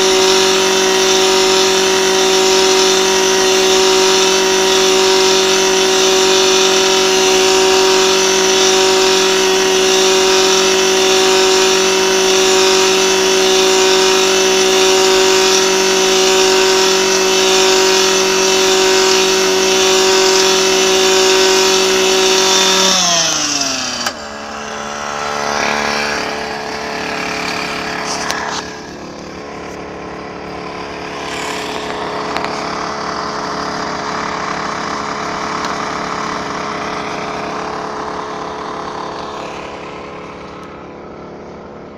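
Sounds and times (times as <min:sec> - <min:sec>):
clatter: 0:00.0 - 0:41.9
earth drill engine running: 0:00.0 - 0:41.9
engine idling: 0:00.0 - 0:41.9.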